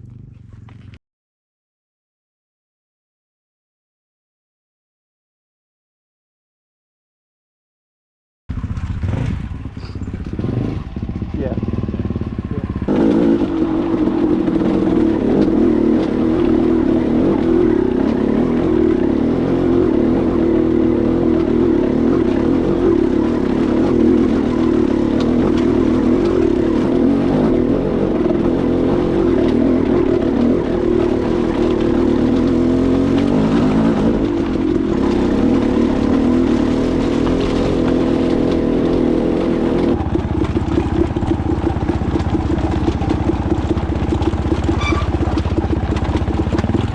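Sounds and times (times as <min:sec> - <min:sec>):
dirt bike engine running: 0:00.0 - 0:01.0, 0:08.5 - 0:46.9.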